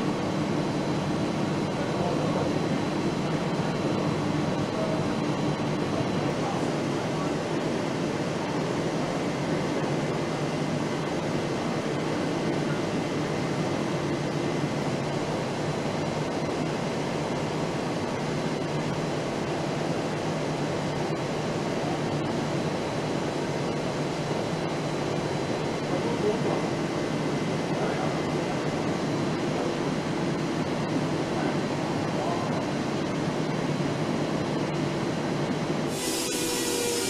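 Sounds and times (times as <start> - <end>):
machinery and ventilation hum: 0.0 - 37.0.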